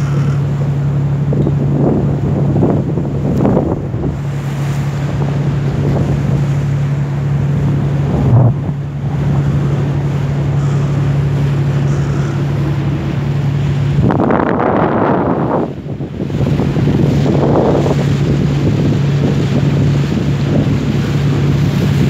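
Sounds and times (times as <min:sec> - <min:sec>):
boat engine drone: 0:00.0 - 0:22.0
water rushing past hull: 0:00.0 - 0:22.0
wind buffeting microphone: 0:00.0 - 0:22.0.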